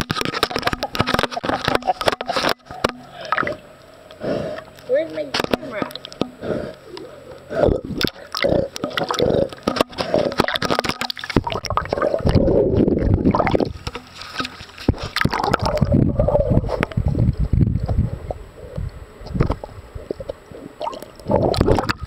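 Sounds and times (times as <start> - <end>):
water sloshing and gurgling: 0.0 - 3.8, 4.4 - 22.0.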